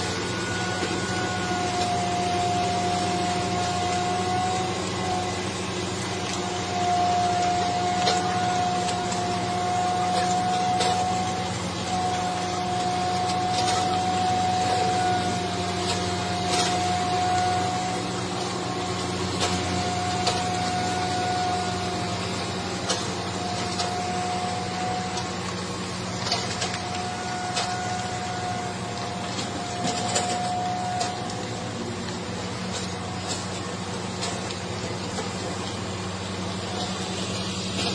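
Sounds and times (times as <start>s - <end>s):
high-pitched whine: 0.0s - 33.6s
engine humming: 0.0s - 37.9s.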